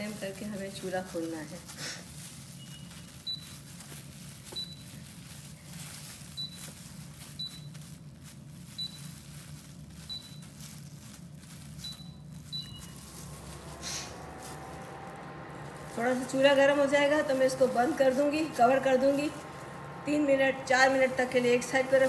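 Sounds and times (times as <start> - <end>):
steady low hum: 2.1 - 22.0.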